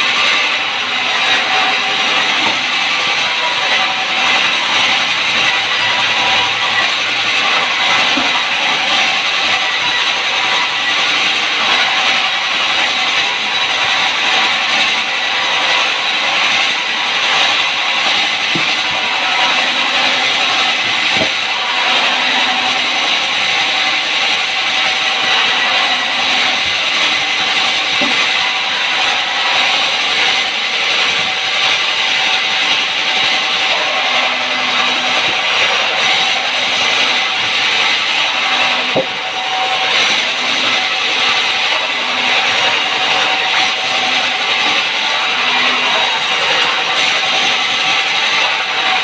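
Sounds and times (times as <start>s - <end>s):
saw cutting through log: 0.0s - 49.0s.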